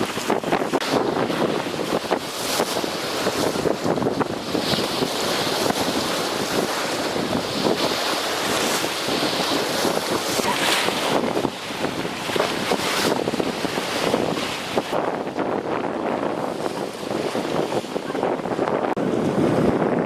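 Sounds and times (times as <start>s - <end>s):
river water splashing: 0.0s - 19.8s
wind buffeting microphone: 0.0s - 20.0s.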